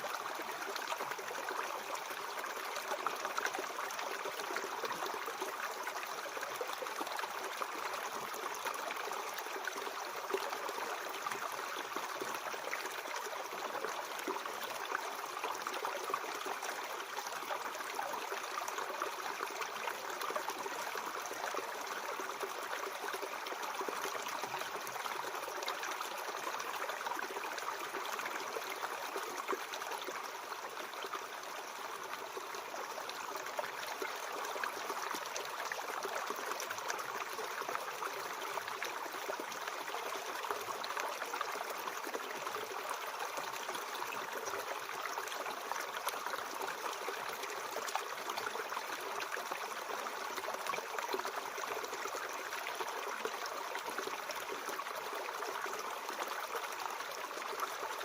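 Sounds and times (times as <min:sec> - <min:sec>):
stream babbling over stones: 0:00.0 - 0:58.0.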